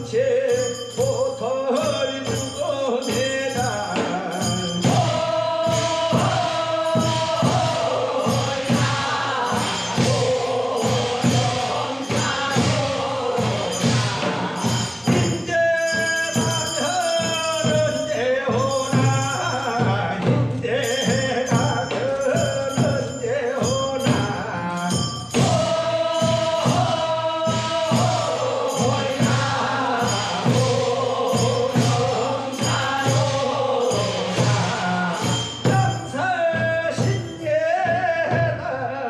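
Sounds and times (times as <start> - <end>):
men singing long held notes: 0.0 - 39.0
steady drum beat: 0.0 - 39.0.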